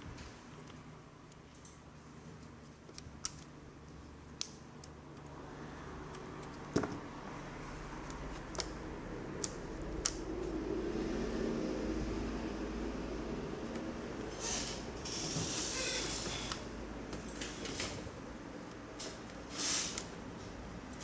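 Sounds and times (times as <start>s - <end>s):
low steady hum: 0.0s - 19.5s.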